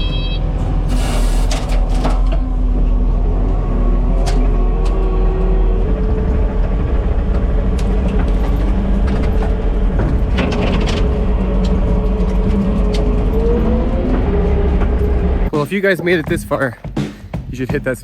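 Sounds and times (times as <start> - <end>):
diesel engine running under load: 0.0 - 15.5.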